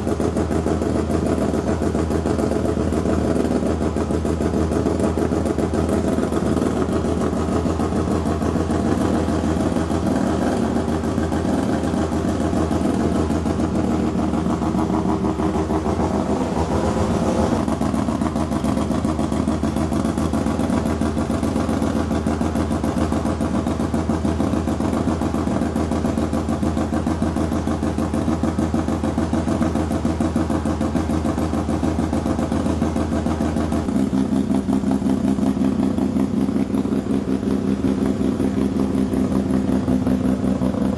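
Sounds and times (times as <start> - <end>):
rotary engine choppy idle: 0.0 - 40.9.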